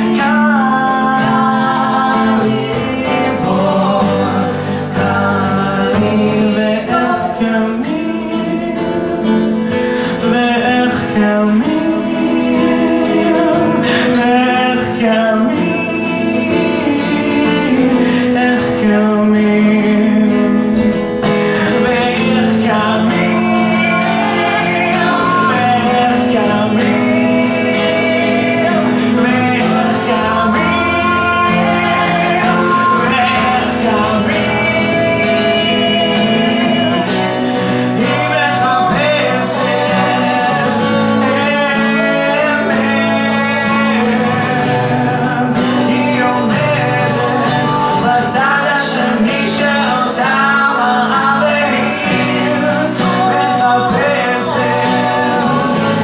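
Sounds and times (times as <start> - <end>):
man singing: 0.0 - 56.0
strummed acoustic guitars: 0.0 - 56.0.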